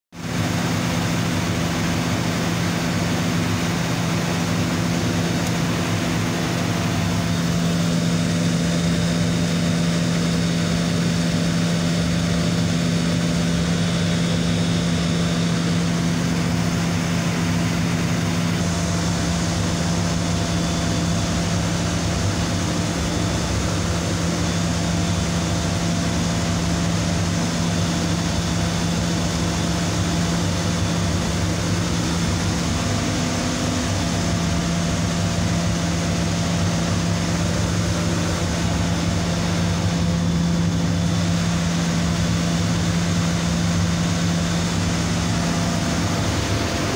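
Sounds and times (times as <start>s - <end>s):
air compressor humming and hissing: 0.2s - 46.9s.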